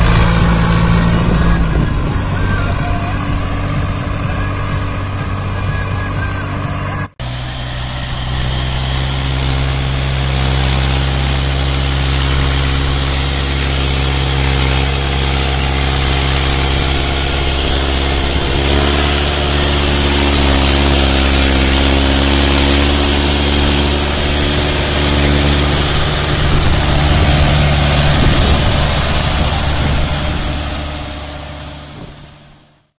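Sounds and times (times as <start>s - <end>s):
tractor diesel engine labouring: 0.0s - 33.0s.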